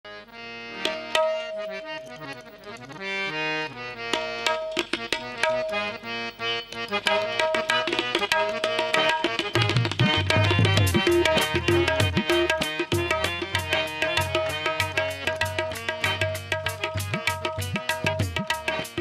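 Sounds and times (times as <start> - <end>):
harmonium melody: 0.1 - 19.0
tabla strokes: 0.8 - 2.5, 4.1 - 19.0.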